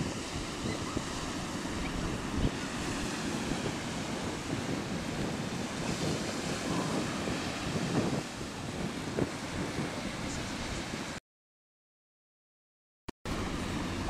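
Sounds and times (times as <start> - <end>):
small waves on shore: 0.0 - 11.2, 13.3 - 14.0
wind buffeting microphone: 0.0 - 11.2, 13.3 - 14.0.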